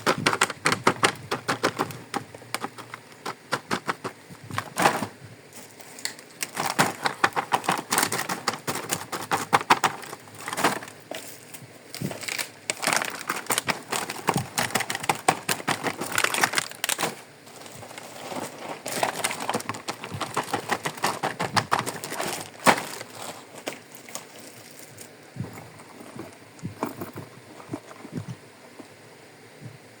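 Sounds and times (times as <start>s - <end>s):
plastic packaging crinkling: 0.0s - 28.3s.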